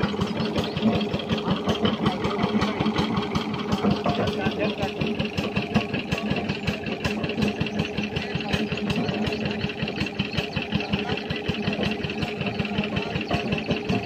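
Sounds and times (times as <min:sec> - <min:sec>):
stationary engine pulsing: 0:00.0 - 0:14.0.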